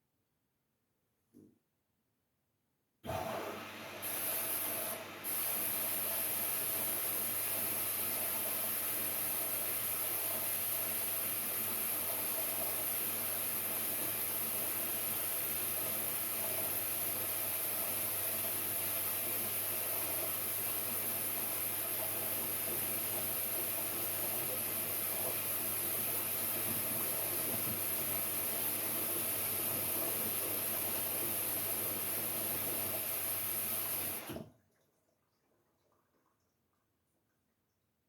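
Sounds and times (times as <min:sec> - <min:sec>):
washing machine hissing: 0:03.1 - 0:34.4.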